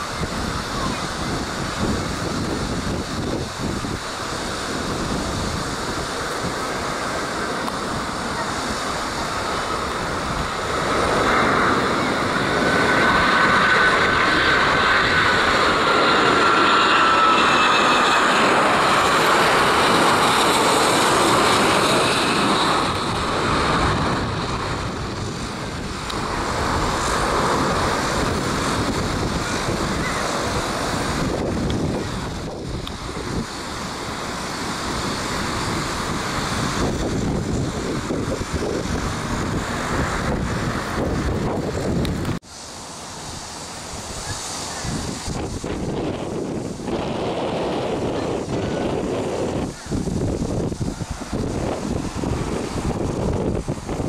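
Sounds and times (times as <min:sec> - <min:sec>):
jet engines overhead: 0:00.0 - 0:54.0
wind buffeting microphone: 0:00.0 - 0:54.0.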